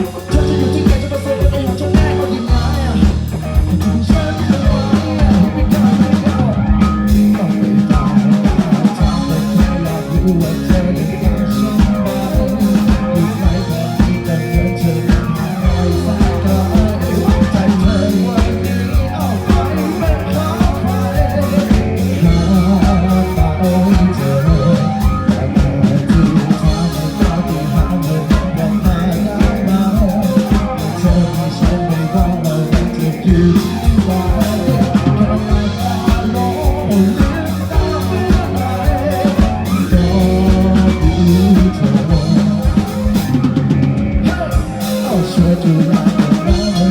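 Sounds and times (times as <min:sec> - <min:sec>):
pop-rock song with singing: 0:00.0 - 0:46.9.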